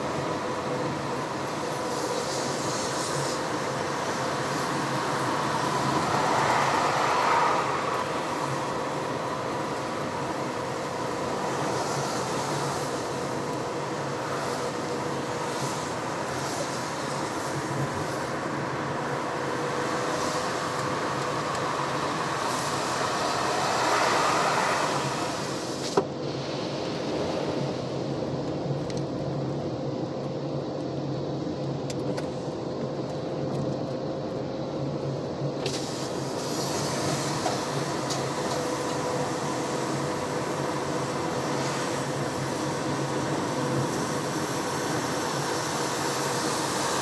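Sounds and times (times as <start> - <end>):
car engine and tyre noise: 0.0 - 47.0.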